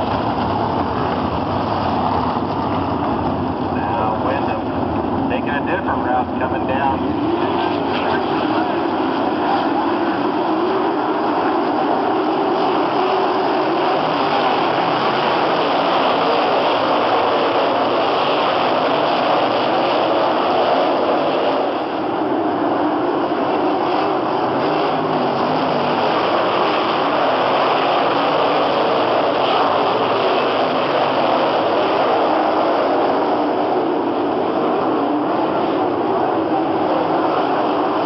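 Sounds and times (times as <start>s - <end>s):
racing car engines: 0.0s - 38.0s.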